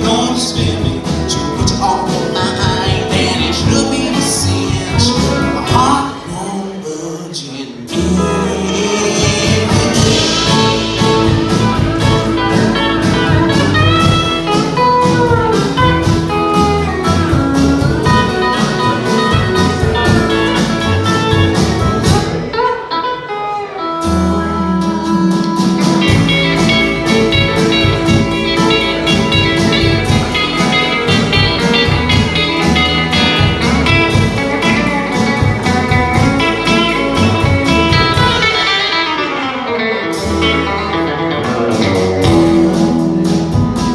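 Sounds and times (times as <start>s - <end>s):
strummed guitars: 0.0s - 43.9s
upright bass: 0.0s - 43.9s
steel guitar sliding notes: 7.9s - 43.9s.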